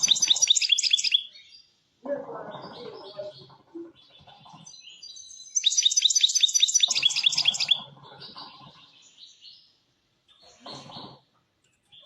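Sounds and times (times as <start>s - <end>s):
bird twittering and trilling: 0.0s - 12.0s.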